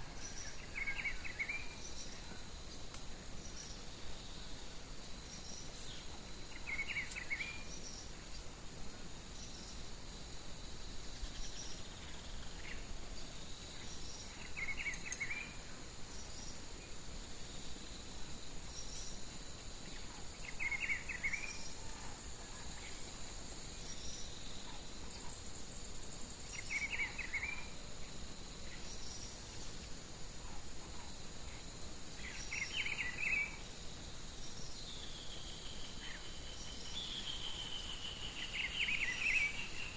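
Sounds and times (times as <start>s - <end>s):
faint bird chirps: 0.0s - 2.6s, 3.3s - 8.6s, 10.9s - 17.8s, 18.6s - 25.7s, 26.4s - 39.9s
insects trilling: 0.0s - 39.9s.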